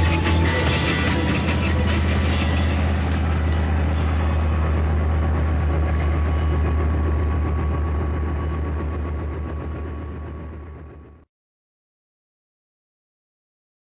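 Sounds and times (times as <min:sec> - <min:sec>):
tank diesel engine droning: 0:00.0 - 0:11.2.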